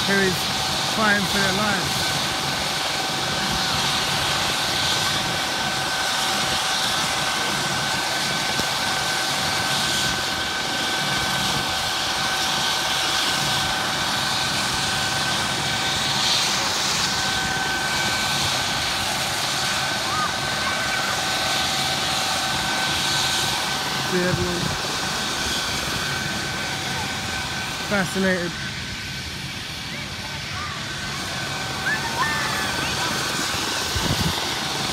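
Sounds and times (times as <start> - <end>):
helicopter engine whine: 0.0 - 34.9.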